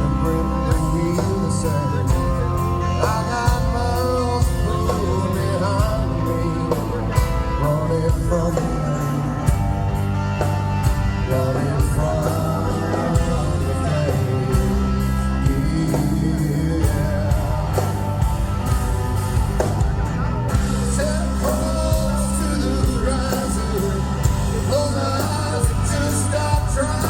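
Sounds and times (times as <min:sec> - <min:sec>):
drums beating: 0:00.0 - 0:27.0
live rock band playing: 0:00.0 - 0:27.0.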